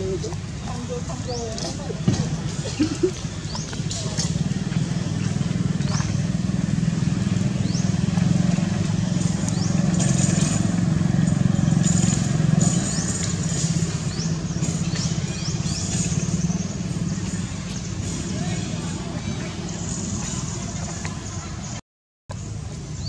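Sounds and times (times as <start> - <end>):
motorcycle engine droning: 0.0 - 21.8.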